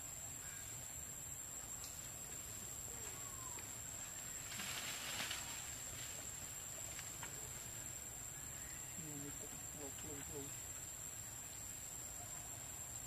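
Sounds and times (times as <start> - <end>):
rustle of leaves and branches: 0.0 - 13.0.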